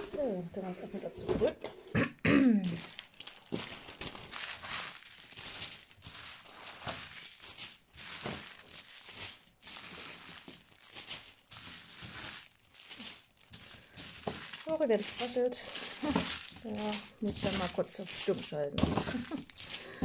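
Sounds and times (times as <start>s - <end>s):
plastic packets crinkling: 2.6s - 20.0s.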